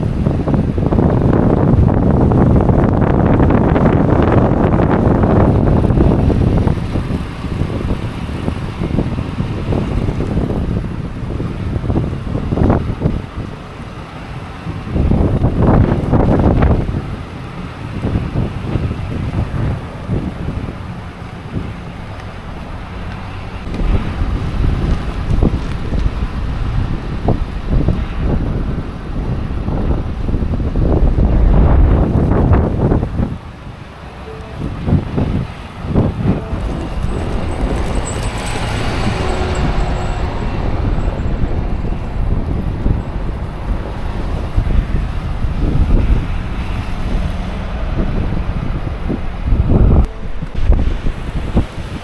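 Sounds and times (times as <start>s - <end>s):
blizzard wind buffeting microphone: 0.0s - 52.0s.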